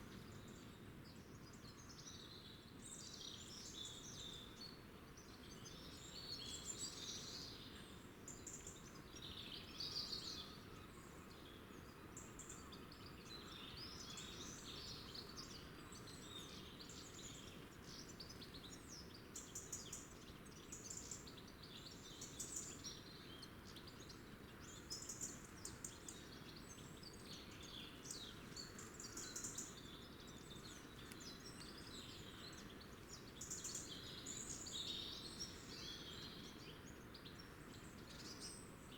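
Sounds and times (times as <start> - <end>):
faint background hiss and rumble: 0.0 - 38.9
small birds chirping and twittering: 0.0 - 38.9.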